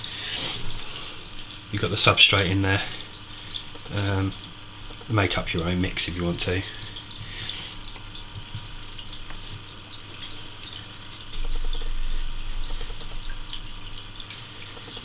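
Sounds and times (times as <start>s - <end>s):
steady water-like hiss: 0.0s - 15.0s.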